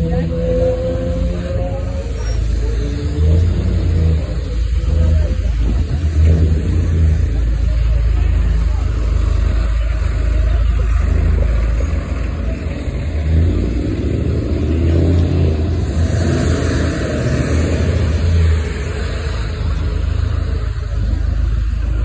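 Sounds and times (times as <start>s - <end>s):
bus engines rumbling: 0.0s - 22.0s.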